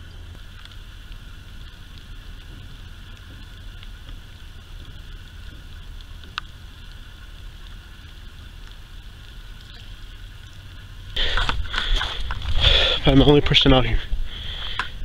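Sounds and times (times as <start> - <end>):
low rumble: 0.0 - 15.0
steady high hum: 0.0 - 15.0.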